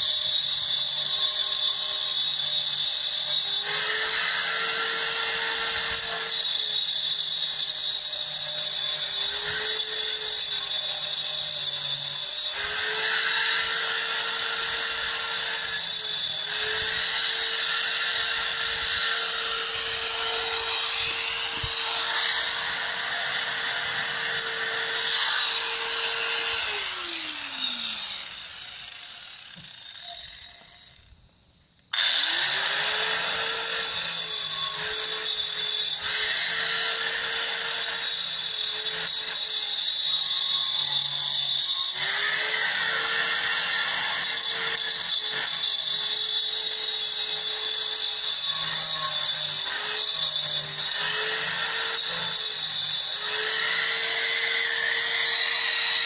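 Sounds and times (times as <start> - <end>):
angle grinder grinding: 0.0 - 31.0, 31.9 - 56.0
grinder spinning down: 1.2 - 31.1, 31.9 - 56.0.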